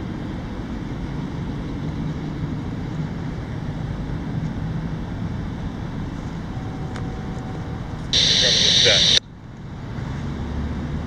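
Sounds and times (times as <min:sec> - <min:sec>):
freight train rumbling: 0:00.0 - 0:10.2.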